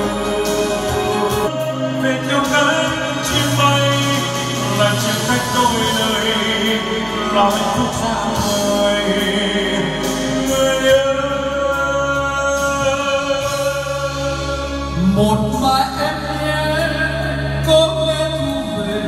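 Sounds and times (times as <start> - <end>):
karaoke backing track: 0.0 - 19.0
man singing into microphone: 0.0 - 19.0.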